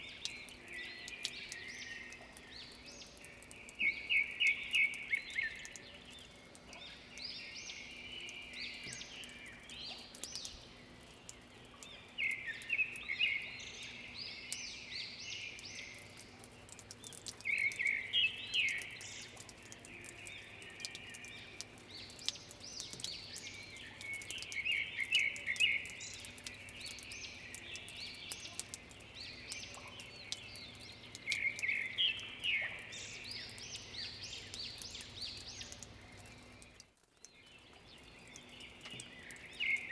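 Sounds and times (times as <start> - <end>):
dripping water ticks: 0.0 - 39.9
songbirds chirping: 0.0 - 39.9.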